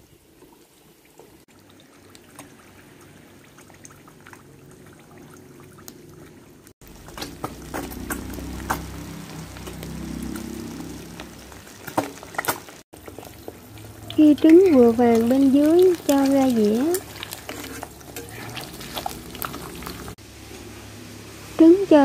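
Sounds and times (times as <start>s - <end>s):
oil popping and crackling: 0.0s - 20.2s
eggs sizzling in a pan: 0.0s - 22.0s.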